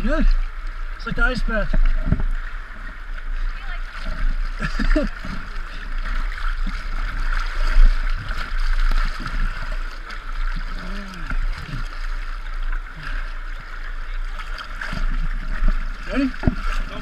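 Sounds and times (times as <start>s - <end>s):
water buffeting camera: 0.0s - 17.0s
whitewater rushing and splashing: 0.0s - 17.0s.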